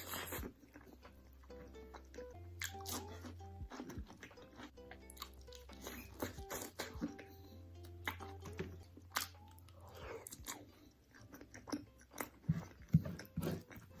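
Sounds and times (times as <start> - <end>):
crunchy food chewing: 0.0 - 14.0.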